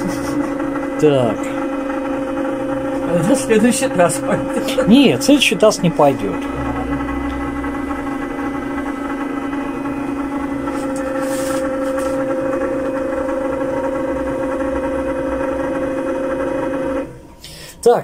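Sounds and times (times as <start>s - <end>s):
vibration platform motor humming: 0.0s - 18.0s.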